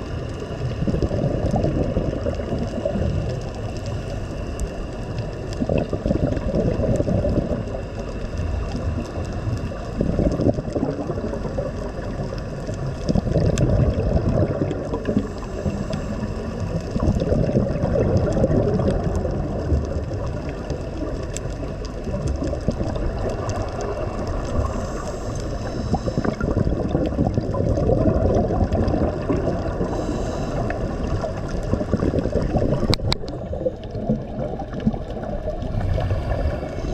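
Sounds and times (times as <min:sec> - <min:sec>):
low churning rumble: 0:00.0 - 0:36.9
water gurgling and sloshing: 0:00.0 - 0:36.9.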